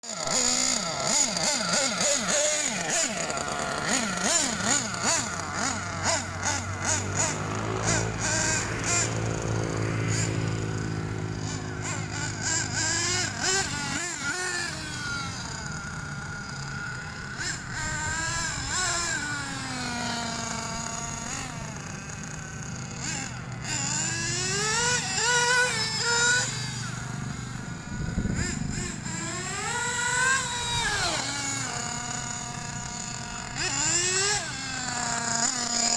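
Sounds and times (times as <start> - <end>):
rc buggy nitro engine revving: 0.0 - 35.9.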